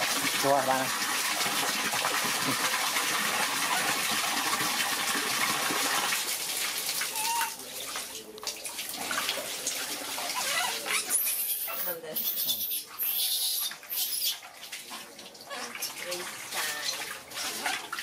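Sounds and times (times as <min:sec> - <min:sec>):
water pouring into metal basin: 0:00.0 - 0:18.0.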